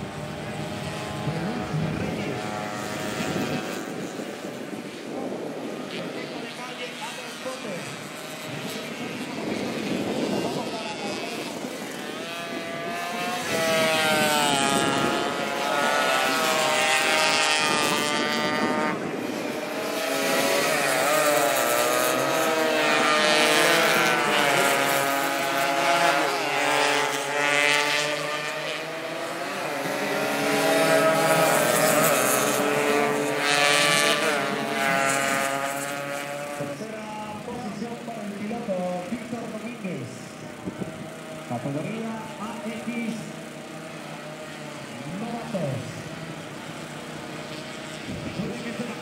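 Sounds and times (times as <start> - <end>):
motorcycles revving past: 0.0 - 37.0, 40.4 - 49.0.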